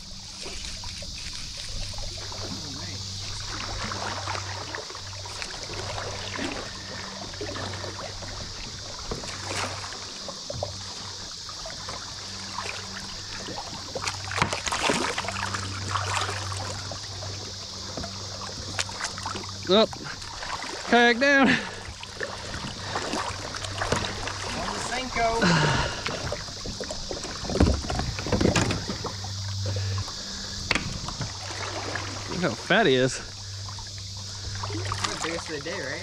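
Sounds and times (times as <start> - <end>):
river water splashing: 0.0 - 36.0
steady low hum: 0.0 - 36.0.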